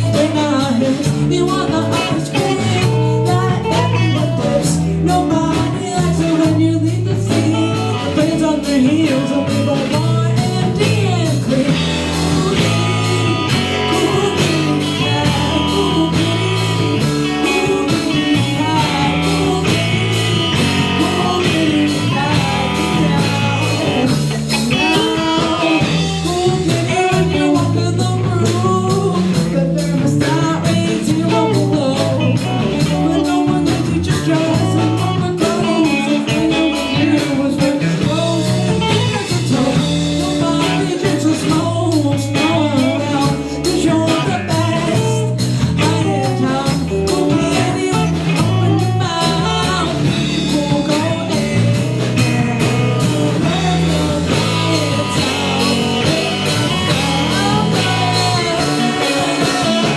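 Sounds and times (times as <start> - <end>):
rock band playing blues: 0.0 - 59.9.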